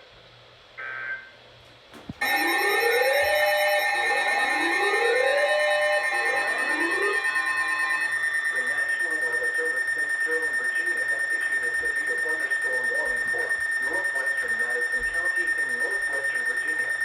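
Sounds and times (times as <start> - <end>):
high-pitched electronic alert tone: 2.2 - 17.0
rising alarm sweep: 2.2 - 17.0.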